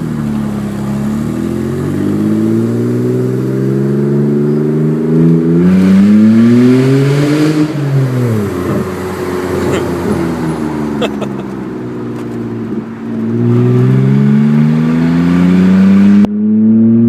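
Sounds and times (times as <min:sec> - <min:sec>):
raspy engine revving: 0:00.0 - 0:16.3.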